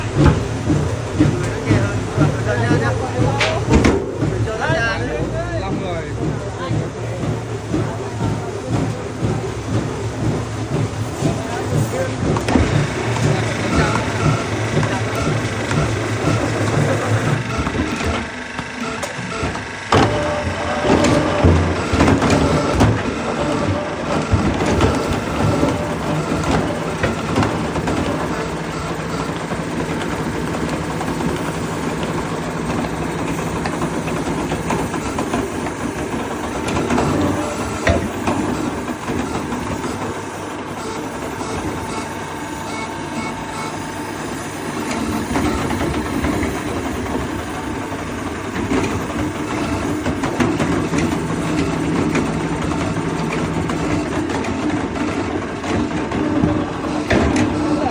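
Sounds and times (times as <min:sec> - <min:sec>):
machine engine humming: 0:00.0 - 0:57.9.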